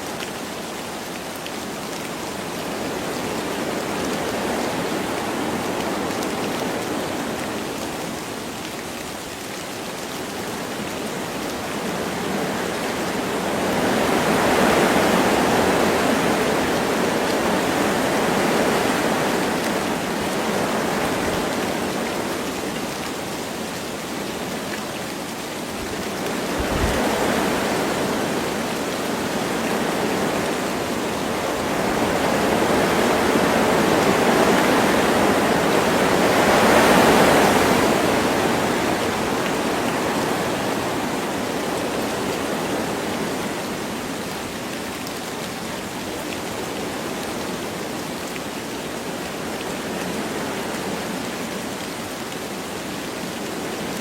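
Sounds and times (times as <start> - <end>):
light rain falling: 0.0 - 54.0
wind blowing through trees: 0.0 - 54.0.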